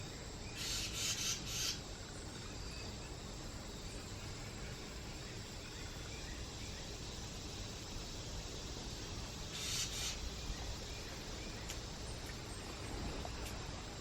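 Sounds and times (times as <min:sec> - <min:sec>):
faint outdoor background noise: 0:00.0 - 0:14.0
rustle: 0:00.0 - 0:14.0.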